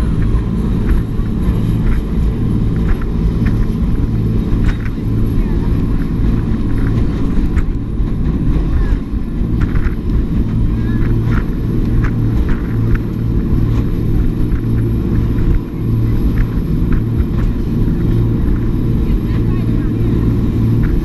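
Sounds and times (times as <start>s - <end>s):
boat engine drone: 0.0s - 21.0s.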